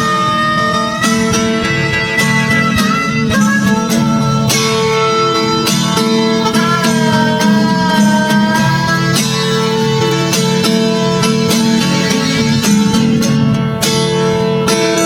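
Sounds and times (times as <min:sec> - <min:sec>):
plucked guitar: 0:00.0 - 0:15.0
sliding fiddle melody: 0:00.0 - 0:15.0.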